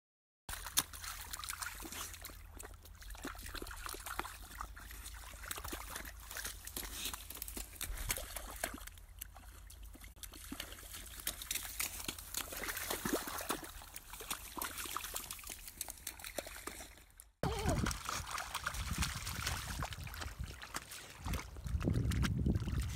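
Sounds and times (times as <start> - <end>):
splashing in a muddy puddle: 0.5 - 22.9.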